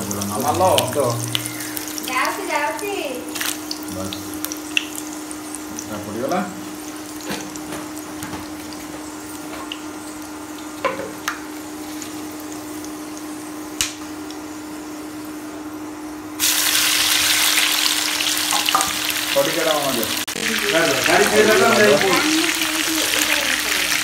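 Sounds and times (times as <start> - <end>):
hot oil sizzling in a pot: 0.0 - 15.5, 16.3 - 24.0
faint hum: 0.0 - 24.0.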